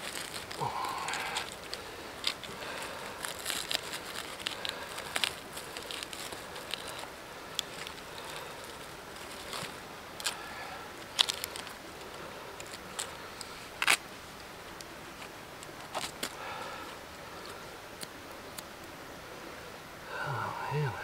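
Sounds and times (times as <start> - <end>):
low steady outdoor hiss: 0.0 - 21.0.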